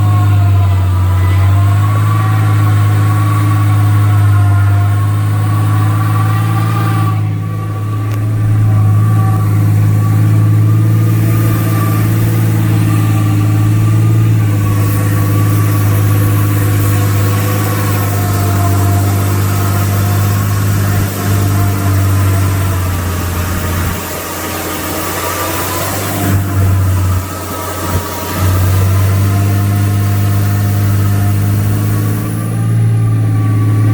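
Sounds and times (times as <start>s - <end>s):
road noise: 0.0s - 33.9s
vehicle engine drone: 0.0s - 33.9s.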